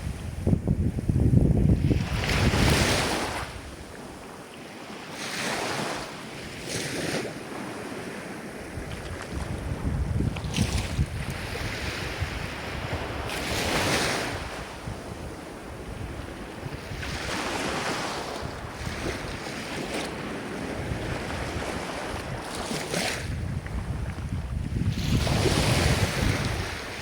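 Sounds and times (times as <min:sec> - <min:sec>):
wind on microphone: 0:00.0 - 0:04.4, 0:05.3 - 0:27.0
ocean waves breaking: 0:01.8 - 0:27.0.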